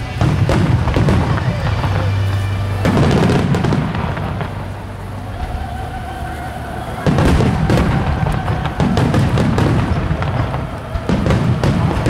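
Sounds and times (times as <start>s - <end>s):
fireworks bursting with booms and crackle: 0.0s - 12.0s.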